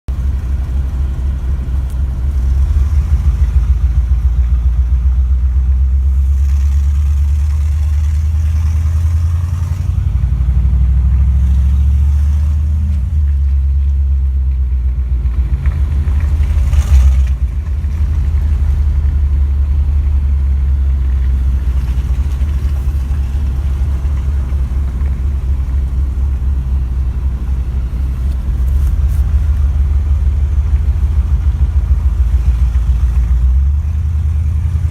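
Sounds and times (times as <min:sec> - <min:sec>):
car engine rumbling: 0:00.0 - 0:34.9.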